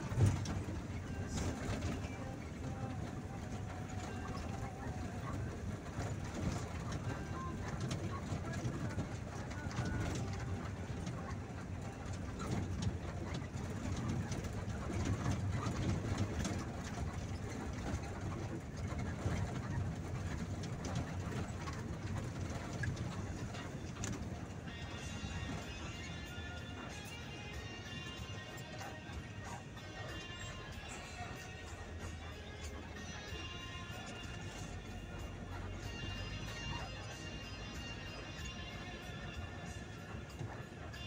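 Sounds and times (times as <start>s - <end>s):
vehicle engine and road rumble: 0.0s - 41.0s.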